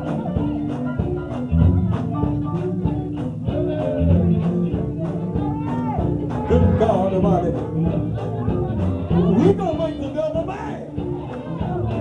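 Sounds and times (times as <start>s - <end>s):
drum beat: 0.0s - 12.0s
live gospel band: 0.0s - 12.0s.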